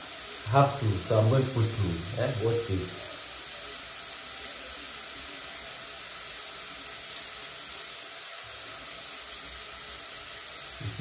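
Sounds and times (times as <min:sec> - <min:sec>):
onions and tomatoes frying: 0:00.0 - 0:11.0.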